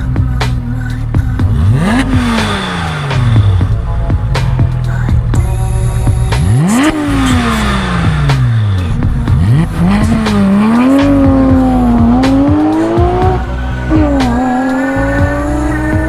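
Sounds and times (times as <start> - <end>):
background music with steady beat: 0.0 - 16.0
motorcycle engine revving: 0.0 - 16.0.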